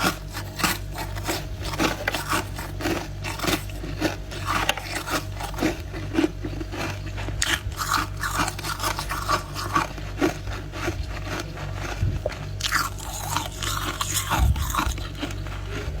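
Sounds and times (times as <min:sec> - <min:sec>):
person chewing crunchy frost: 0:00.0 - 0:16.0.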